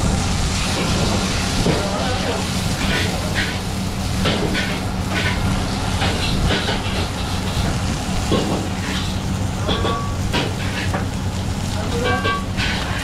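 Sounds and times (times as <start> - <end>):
patty sizzling on griddle: 0.0 - 13.0.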